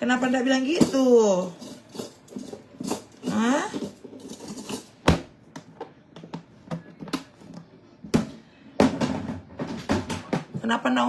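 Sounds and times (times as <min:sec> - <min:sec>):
objects clattering: 0:00.0 - 0:10.8.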